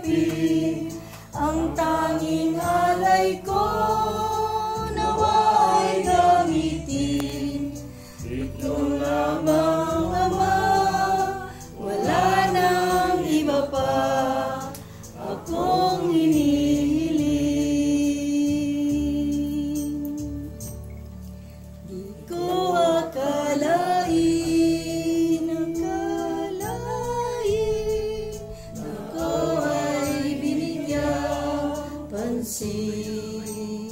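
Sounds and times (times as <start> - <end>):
group singing unaccompanied: 0.0 - 19.6, 21.9 - 33.9.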